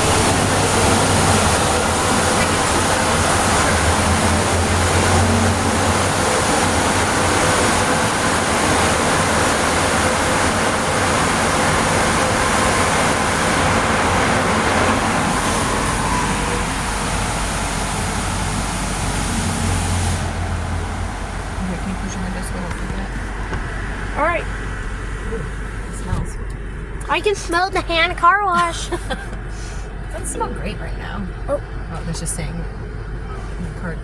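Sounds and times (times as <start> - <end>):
car wash blowers rushing air: 0.0 - 34.0.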